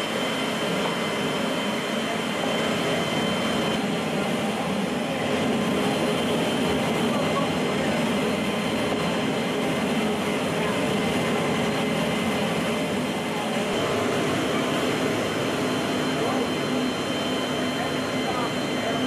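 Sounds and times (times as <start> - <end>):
jet engines roaring in cargo hold: 0.0 - 19.0.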